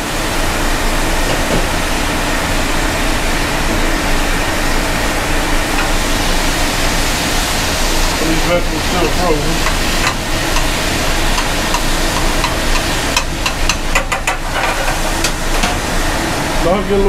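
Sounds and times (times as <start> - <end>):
vegetables sizzling in oil: 2.4 - 16.7.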